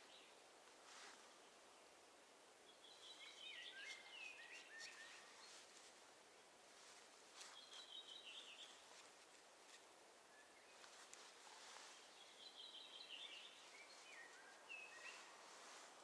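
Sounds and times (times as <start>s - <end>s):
faint birdsong: 0.0s - 16.0s
forest ambience: 0.0s - 16.0s.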